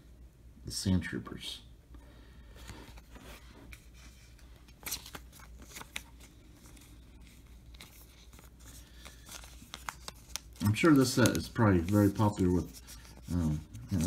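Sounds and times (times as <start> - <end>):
card sliding into plastic sleeve: 2.7 - 14.0.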